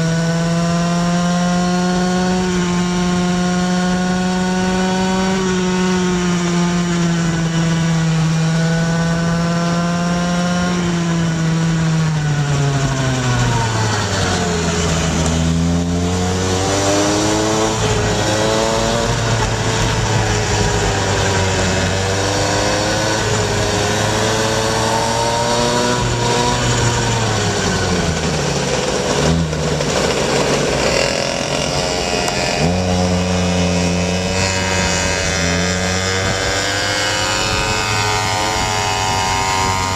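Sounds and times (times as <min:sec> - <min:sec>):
scooter engines buzzing: 0:00.0 - 0:39.9.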